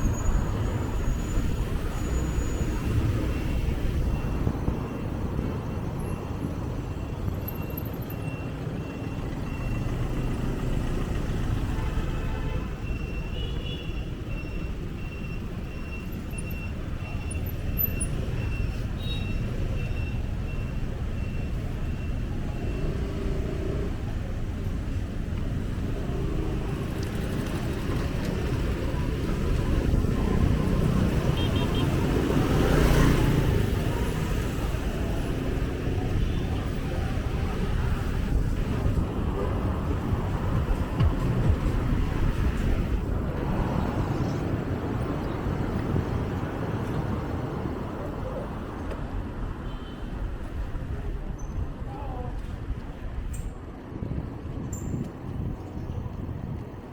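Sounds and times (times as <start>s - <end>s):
road traffic rumble: 0.0s - 56.9s.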